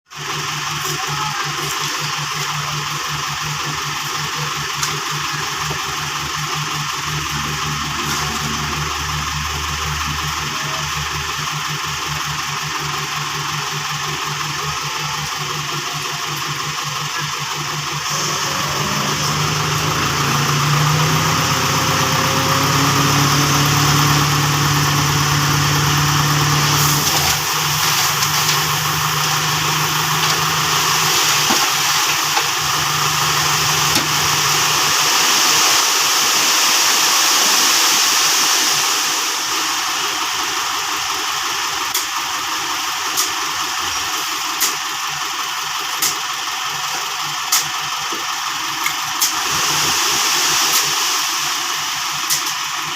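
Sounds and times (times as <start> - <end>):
vehicle engine running: 0.1 - 52.9.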